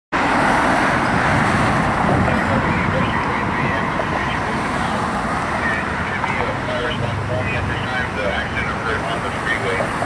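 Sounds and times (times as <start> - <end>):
street traffic noise: 0.1 - 10.0.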